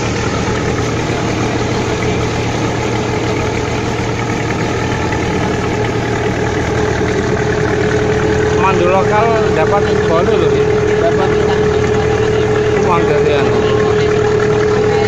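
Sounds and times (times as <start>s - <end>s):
boat diesel engine running: 0.0s - 15.0s.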